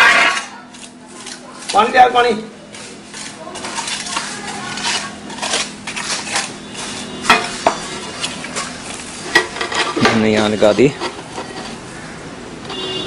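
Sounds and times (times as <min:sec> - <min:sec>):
trowel scraping mortar: 0:00.0 - 0:11.9.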